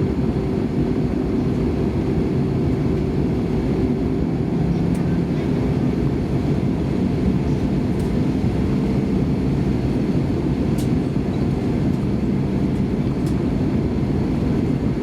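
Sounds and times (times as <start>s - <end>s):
aircraft cabin taxiing rumble: 0.0s - 15.0s.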